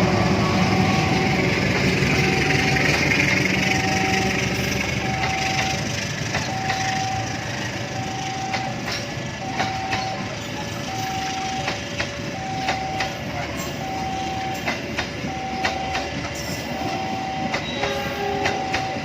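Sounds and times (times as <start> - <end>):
level crossing signal beeping: 0.0 - 19.0
train rolling past: 0.0 - 19.0.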